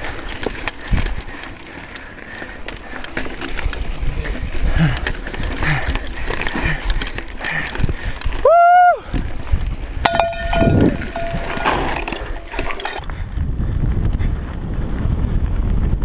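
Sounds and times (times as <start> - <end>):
bike chain rattling: 0.0 - 13.3
bike tyres on dirt and rock: 0.0 - 16.0.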